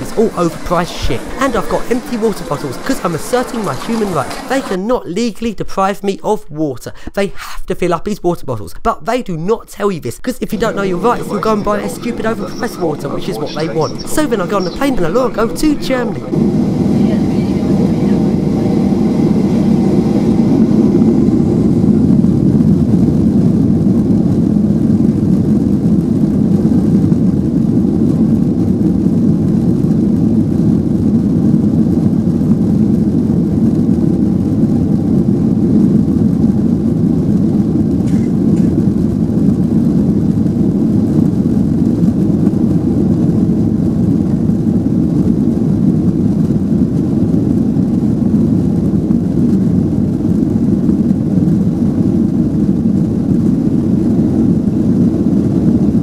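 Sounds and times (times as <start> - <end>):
jet engines roaring: 0.0 - 4.9, 10.2 - 56.0.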